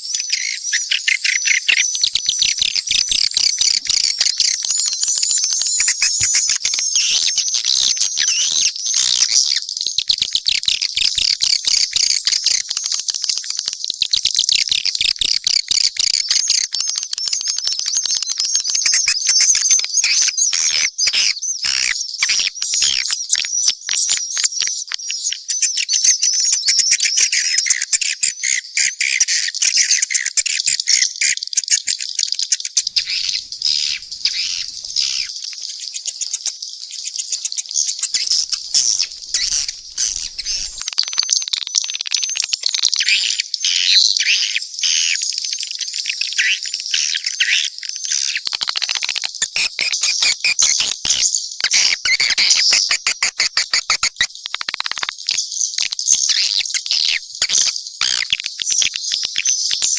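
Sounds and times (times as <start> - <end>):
swiftlets twittering and chirping: 0.0 - 59.9.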